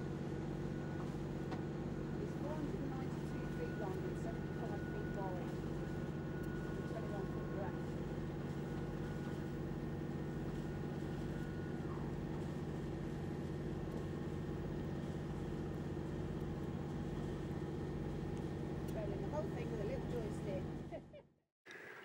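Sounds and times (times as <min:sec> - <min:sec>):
boat diesel engine drone: 0:00.0 - 0:21.4
faint high whine: 0:01.9 - 0:20.7.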